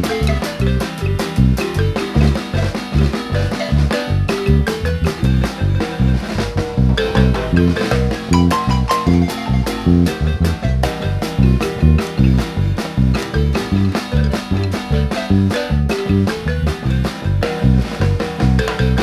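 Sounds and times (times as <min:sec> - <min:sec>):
bass: 0:00.0 - 0:19.0
drum kit: 0:00.0 - 0:19.0
marimba ensemble dance tune: 0:00.0 - 0:19.0.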